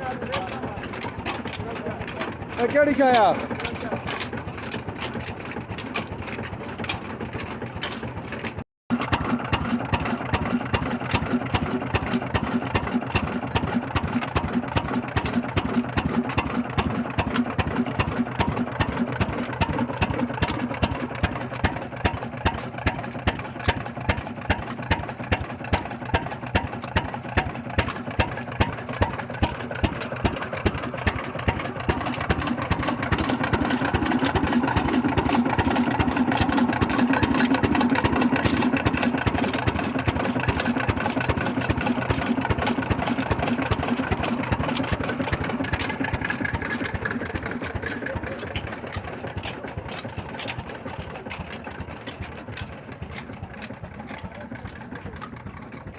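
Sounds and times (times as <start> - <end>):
diesel engine knocking: 0.0 - 55.9.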